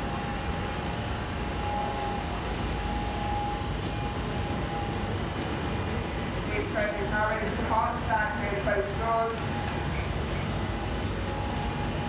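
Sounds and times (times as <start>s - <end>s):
train whine: 0.0s - 12.0s
underground train rumbling: 0.0s - 12.0s.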